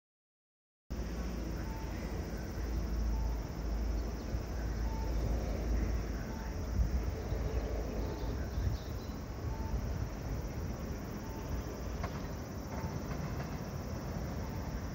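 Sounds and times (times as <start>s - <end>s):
distant train rumble: 0.9s - 14.9s
high insect chirps: 0.9s - 14.9s.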